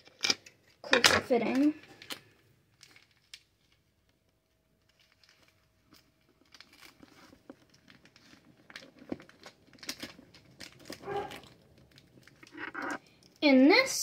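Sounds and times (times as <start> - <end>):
fabric and tape rustling: 0.7 - 12.6.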